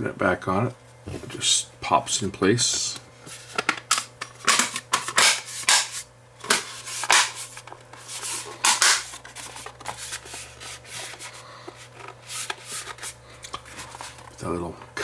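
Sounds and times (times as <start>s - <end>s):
rubbing and handling noise: 2.4s - 15.0s.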